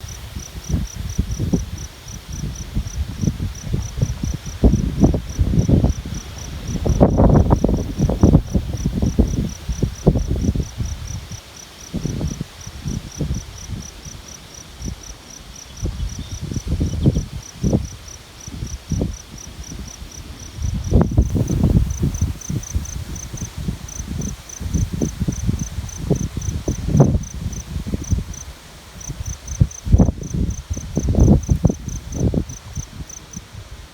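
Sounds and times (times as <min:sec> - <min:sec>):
wind buffeting microphone: 0:00.0 - 0:14.2, 0:15.8 - 0:33.9
insect chirping: 0:00.0 - 0:33.6.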